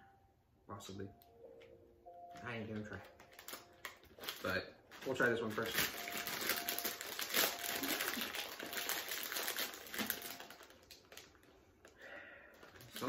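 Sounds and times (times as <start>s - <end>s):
plastic snack bag crinkling: 2.5s - 13.0s.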